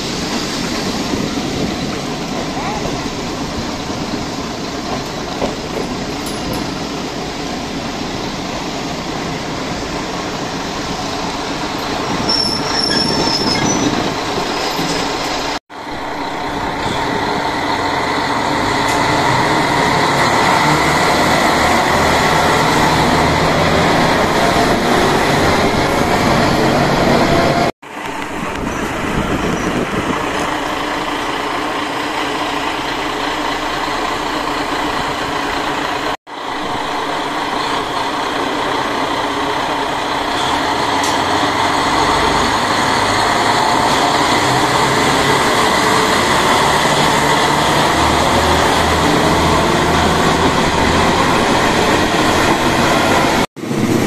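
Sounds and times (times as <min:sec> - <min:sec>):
railcar engine: 0:00.0 - 0:54.0
train wheel noise: 0:00.0 - 0:54.0.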